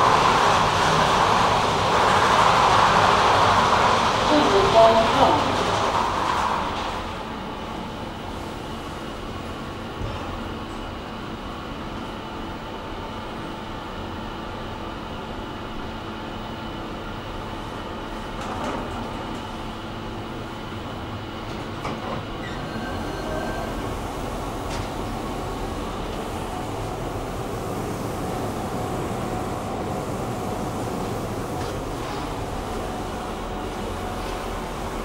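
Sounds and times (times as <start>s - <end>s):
elevator mechanical rumble: 0.0s - 35.0s.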